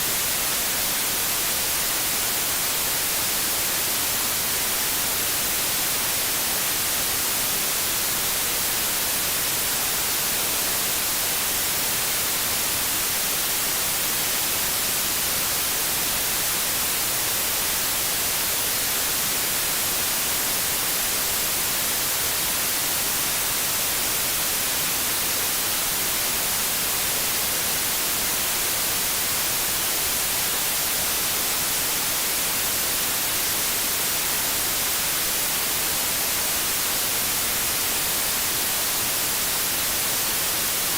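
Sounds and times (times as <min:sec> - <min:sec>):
tv static hiss: 0:00.0 - 0:40.9.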